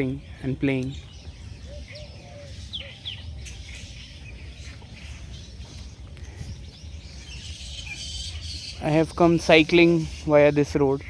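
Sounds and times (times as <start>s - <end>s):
bird chirps: 0.0s - 11.0s
steady low rumble: 0.0s - 11.0s.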